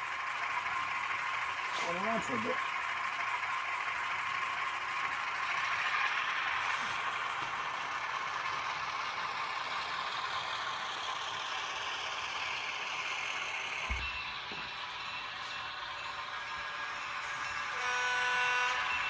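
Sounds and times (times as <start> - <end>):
tinny diesel engine sound from speaker: 0.0 - 19.0.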